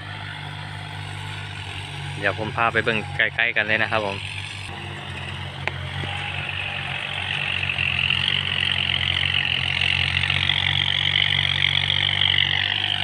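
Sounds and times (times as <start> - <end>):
tiller churning water: 0.0 - 13.0
tractor engine drone: 0.0 - 13.0.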